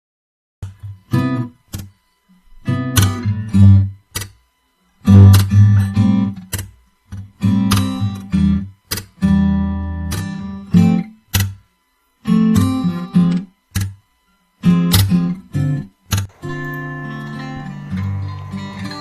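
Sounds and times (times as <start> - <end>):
acoustic guitar strumming chords: 0.6 - 4.4, 5.0 - 14.0, 14.6 - 19.0.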